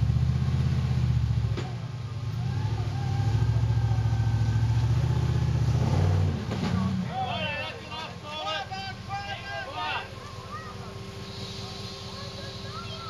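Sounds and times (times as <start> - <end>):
engine running hard under load: 0.0 - 13.0.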